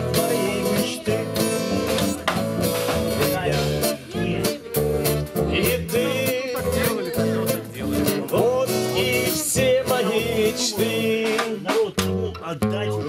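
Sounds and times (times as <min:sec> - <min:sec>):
bass guitar: 0:00.0 - 0:13.0
electric guitars: 0:00.0 - 0:13.0
strummed acoustic guitar: 0:00.0 - 0:13.0.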